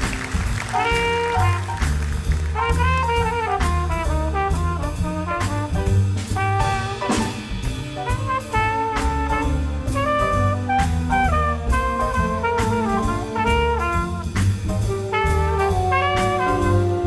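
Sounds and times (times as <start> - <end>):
jazz big band playing: 0.0 - 17.0.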